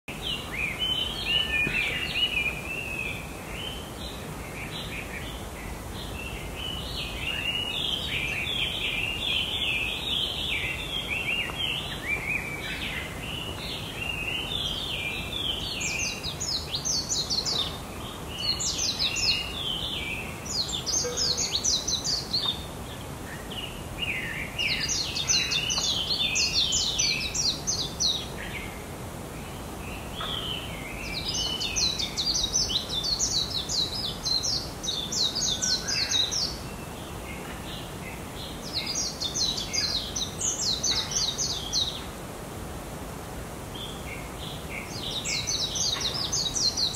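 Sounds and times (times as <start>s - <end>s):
songbird twittering: 0.1s - 28.8s, 29.4s - 42.1s, 43.7s - 46.9s
steady background hiss: 0.1s - 46.9s.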